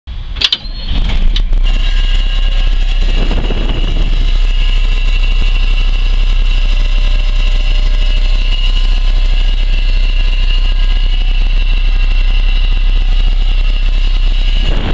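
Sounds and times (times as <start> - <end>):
bus engine starting and idling: 0.1 - 14.9
high-pitched whine: 0.2 - 14.9.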